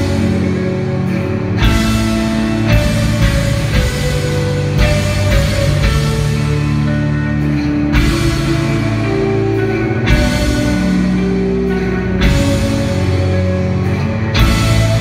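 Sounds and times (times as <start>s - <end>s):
post-rock band playing: 0.0s - 15.0s.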